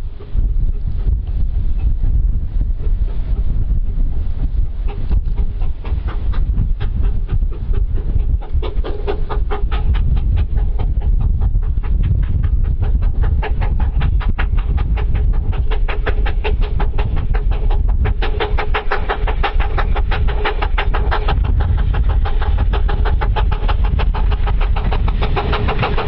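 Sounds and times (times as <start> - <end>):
wind rumble on microphone: 0.0 - 26.0
steam locomotive chuffing: 4.5 - 26.0.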